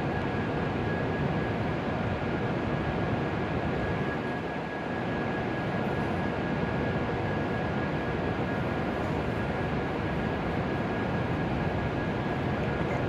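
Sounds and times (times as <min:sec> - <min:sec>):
train equipment hum and whir: 0:00.0 - 0:13.0.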